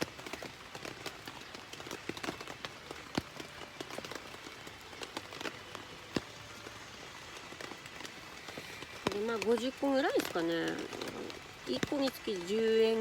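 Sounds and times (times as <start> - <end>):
raindrops tapping on tent: 0.0 - 13.0
steady rain hiss: 0.0 - 13.0.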